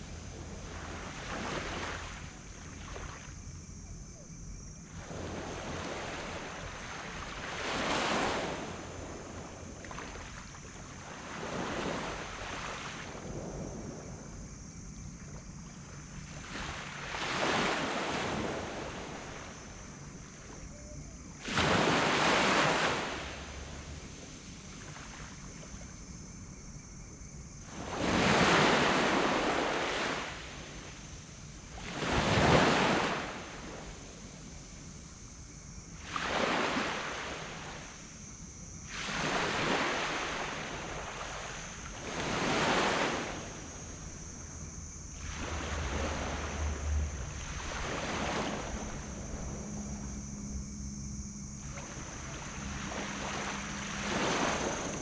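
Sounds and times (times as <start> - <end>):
waves breaking on a beach: 0.0 - 3.8, 4.4 - 26.1, 27.6 - 55.0.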